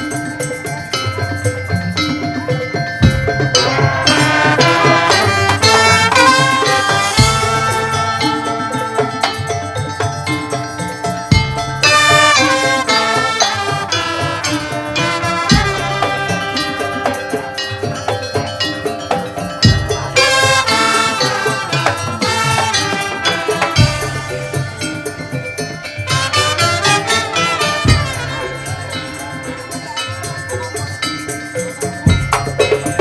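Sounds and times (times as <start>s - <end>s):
pitched percussion melody: 0.0s - 33.0s
steady drumming: 0.0s - 33.0s.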